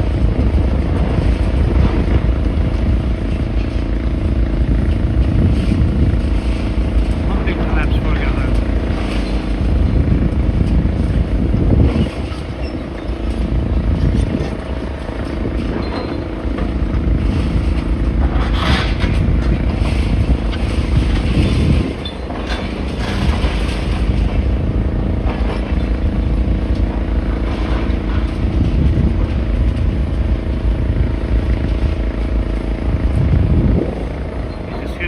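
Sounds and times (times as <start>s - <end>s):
engine humming: 0.0s - 35.0s
wind buffeting microphone: 0.0s - 35.0s.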